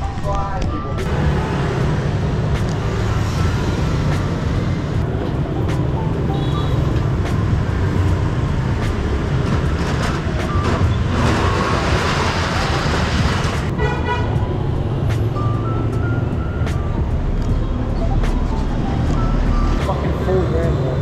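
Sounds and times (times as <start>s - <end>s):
motorbike and scooter traffic: 0.0s - 21.0s.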